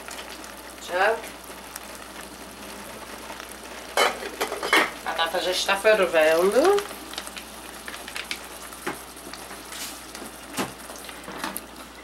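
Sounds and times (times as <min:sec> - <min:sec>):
simmering sauce hissing: 0:00.0 - 0:12.0.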